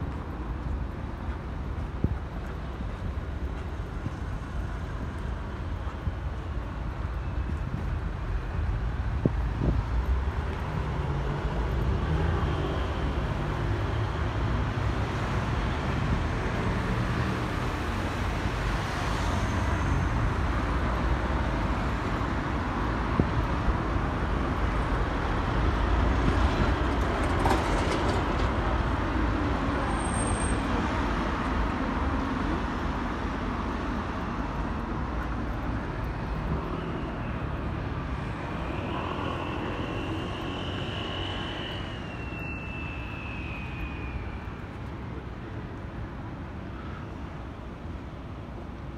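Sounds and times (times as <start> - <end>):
road traffic rumble: 0.0 - 48.9.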